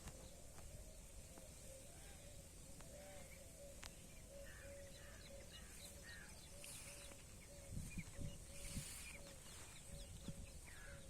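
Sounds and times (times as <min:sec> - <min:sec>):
bird chirps: 0:00.0 - 0:11.0
soft repeated bird call: 0:00.0 - 0:11.0.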